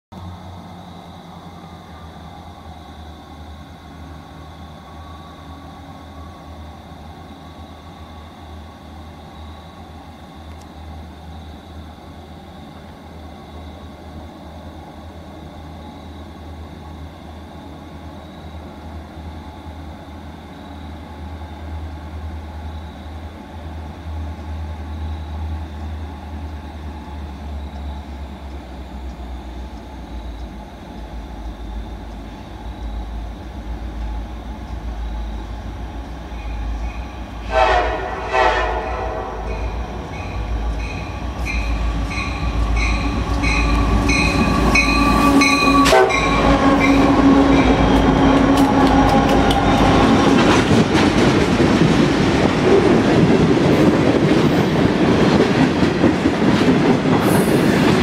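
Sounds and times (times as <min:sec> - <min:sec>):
diesel freight train rumble: 0:00.1 - 0:58.0.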